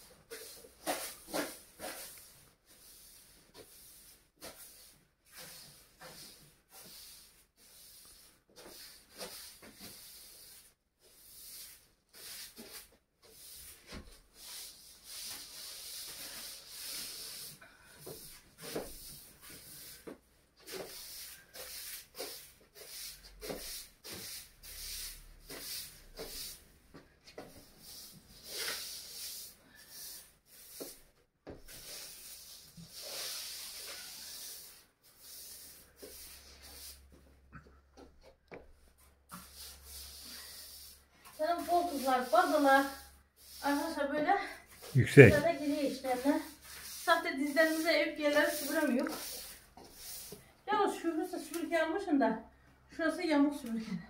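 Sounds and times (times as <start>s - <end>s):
broom sweeping floor: 0.0s - 52.2s.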